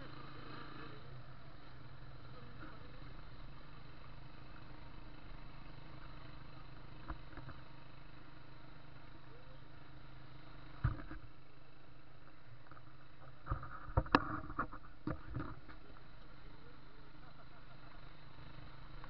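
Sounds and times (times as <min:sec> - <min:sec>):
motorcycle running: 0:00.0 - 0:19.0.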